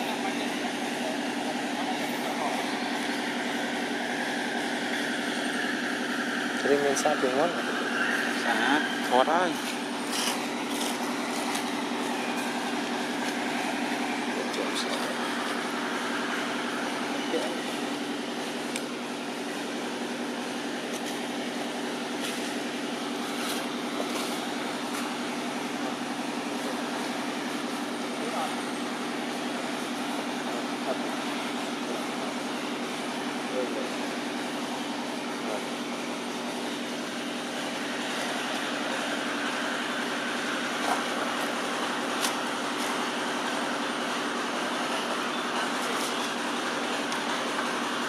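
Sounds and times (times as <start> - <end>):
engine droning: 0.0 - 48.0.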